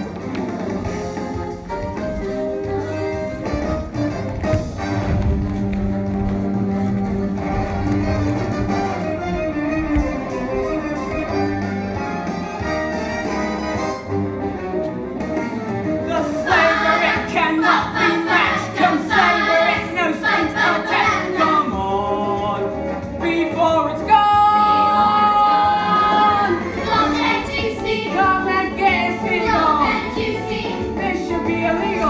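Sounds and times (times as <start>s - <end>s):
instrumental accompaniment: 0.0s - 32.0s.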